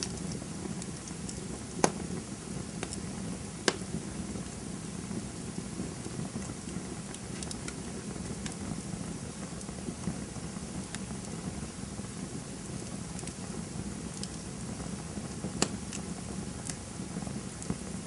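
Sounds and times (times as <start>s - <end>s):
campfire flames rushing: 0.0s - 18.0s
fire crackling and popping: 0.0s - 18.0s.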